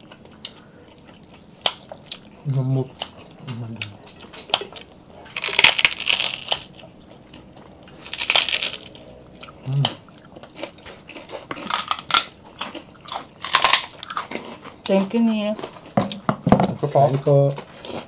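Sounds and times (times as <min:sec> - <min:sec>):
crunching crisp food: 0:00.0 - 0:18.0.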